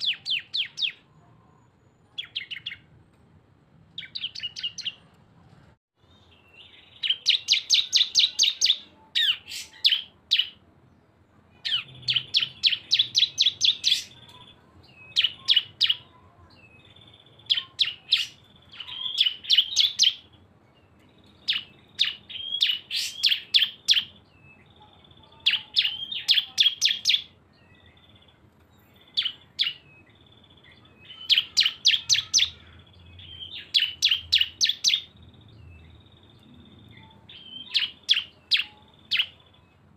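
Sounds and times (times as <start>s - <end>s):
birds chattering high chirps: 0.0s - 3.0s, 3.9s - 5.1s, 6.0s - 39.9s.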